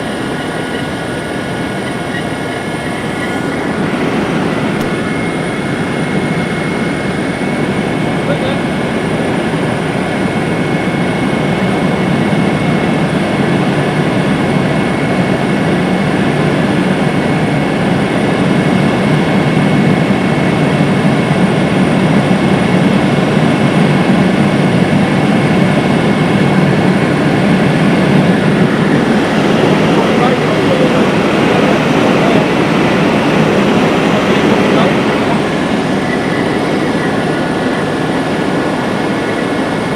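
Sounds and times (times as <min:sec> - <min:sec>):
helicopter engine and rotor drone: 0:00.0 - 0:39.9
thin steady whine: 0:00.0 - 0:39.9.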